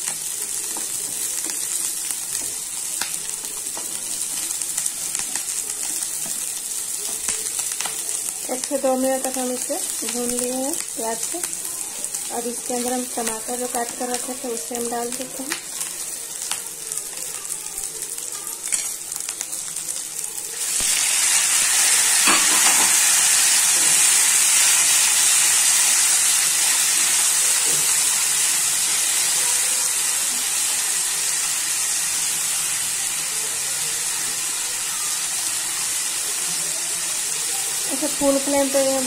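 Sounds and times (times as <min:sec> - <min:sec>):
onions sizzling in oil: 0:00.0 - 0:39.0
tomatoes sizzling loudly: 0:00.0 - 0:39.0.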